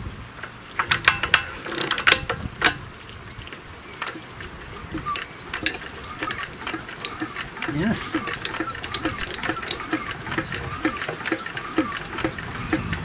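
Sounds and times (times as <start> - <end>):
engine turned over by hand clicking: 0.0 - 13.0.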